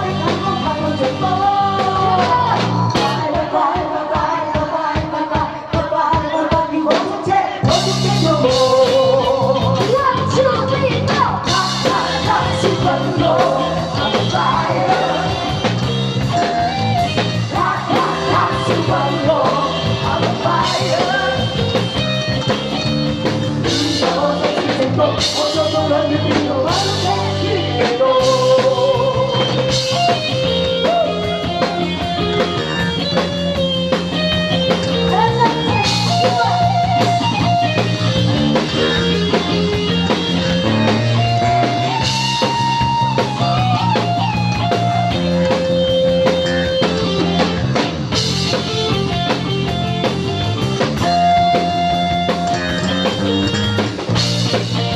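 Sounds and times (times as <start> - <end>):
rock song with singing: 0.0 - 54.9.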